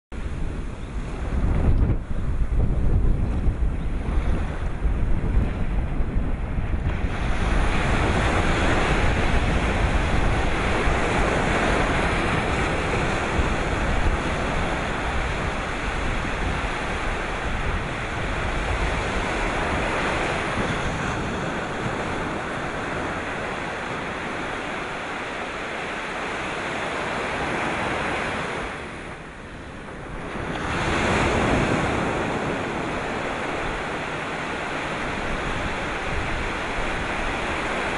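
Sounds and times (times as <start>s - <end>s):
wind buffeting microphone: 0.1s - 37.9s
sea surf breaking: 0.2s - 37.9s.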